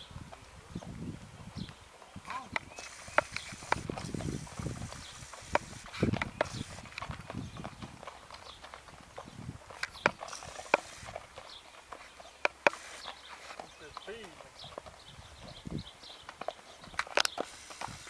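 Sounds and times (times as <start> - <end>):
horse hoofbeats: 0.0 - 18.0.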